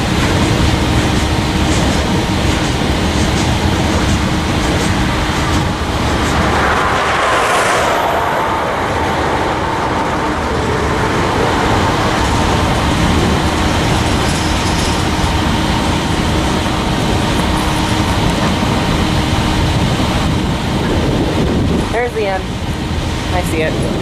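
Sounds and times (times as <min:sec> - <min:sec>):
freight train rumble and rattle: 0:00.0 - 0:24.0.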